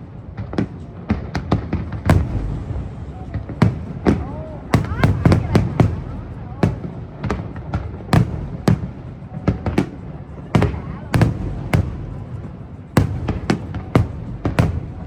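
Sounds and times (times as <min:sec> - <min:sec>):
continuous low rumble: 0:00.0 - 0:15.0
fireworks bangs: 0:00.3 - 0:15.0.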